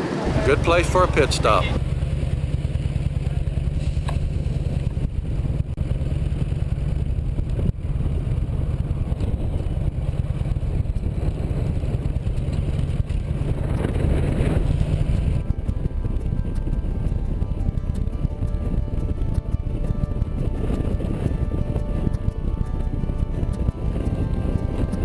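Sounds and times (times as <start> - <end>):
motorcycle engine rumble: 0.0 - 25.0
wind buffeting microphone: 4.2 - 25.0.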